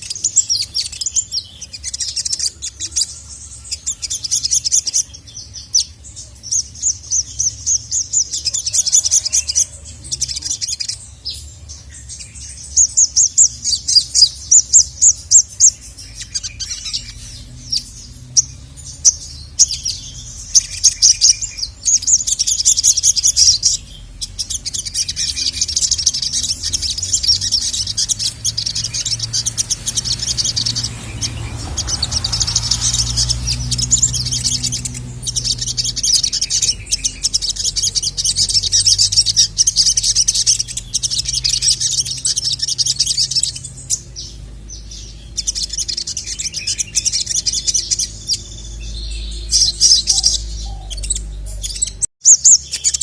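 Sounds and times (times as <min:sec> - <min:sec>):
sunbird chattering song: 0:00.0 - 0:53.0.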